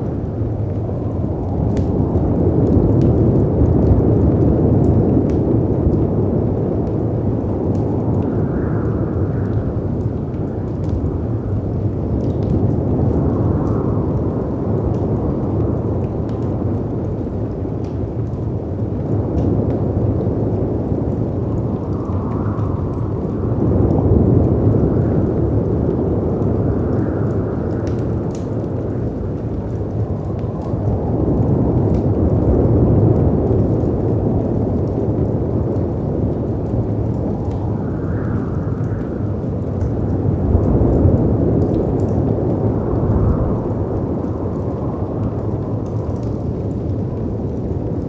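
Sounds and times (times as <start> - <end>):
howling wind: 0.0 - 48.0
wood fire crackling: 0.0 - 48.0.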